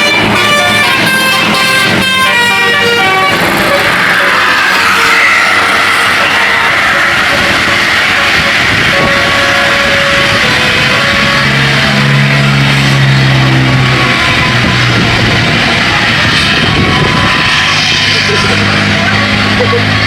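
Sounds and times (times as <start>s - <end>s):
multi-tone bus air horn: 0.0s - 20.0s
noisy traffic: 0.0s - 20.0s.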